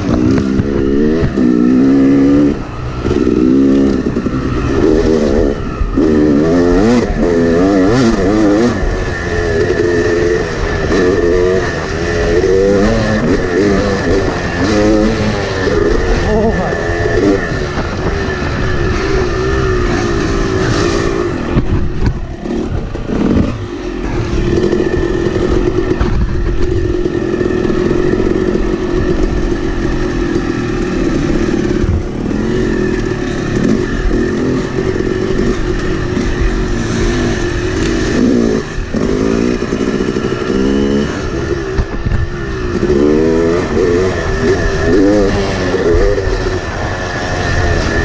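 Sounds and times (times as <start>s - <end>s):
two-stroke dirt bike engine revving: 0.0s - 48.0s.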